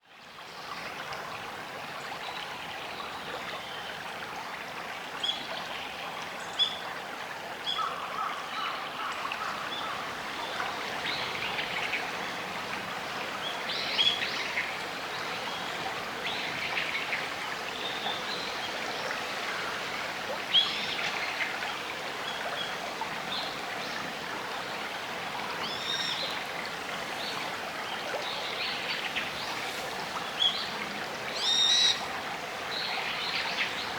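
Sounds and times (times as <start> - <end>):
shallow river babbling: 0.2 - 33.9.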